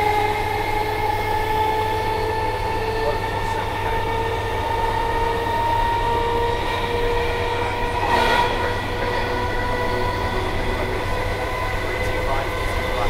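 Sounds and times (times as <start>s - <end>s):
traction motor whine: 0.0s - 13.0s
wheels rumbling on track: 0.0s - 13.0s.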